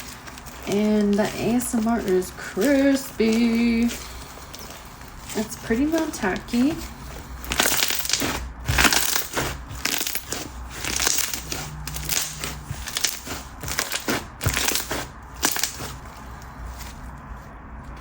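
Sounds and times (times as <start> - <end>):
slime crunching and crackling: 0.0 - 18.0.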